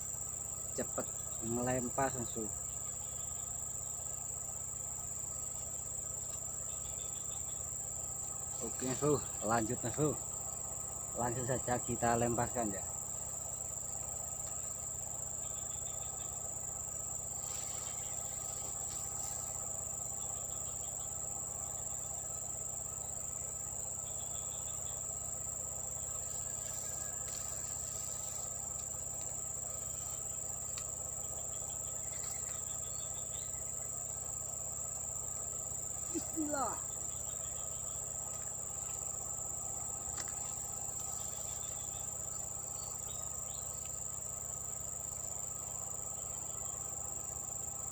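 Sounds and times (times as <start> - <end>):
crickets droning: 0.0 - 47.9.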